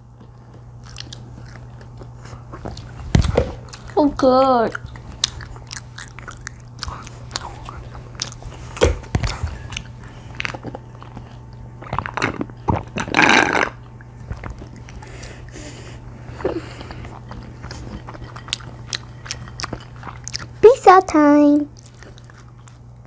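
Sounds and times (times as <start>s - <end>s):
people chewing close up: 0.0s - 23.0s
steady low hum: 0.0s - 23.0s.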